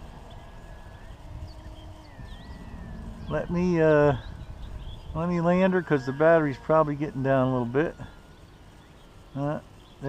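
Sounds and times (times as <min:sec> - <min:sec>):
wind rumble on microphone: 0:00.0 - 0:09.2
faint bird chirps: 0:00.0 - 0:10.0.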